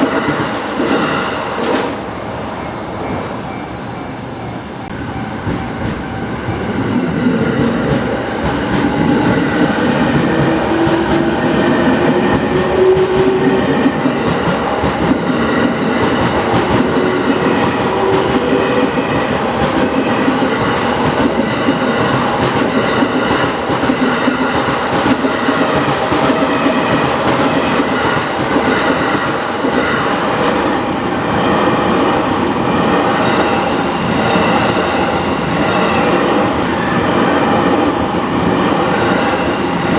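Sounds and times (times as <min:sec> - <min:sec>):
rising train whine: 0:00.0 - 0:39.9.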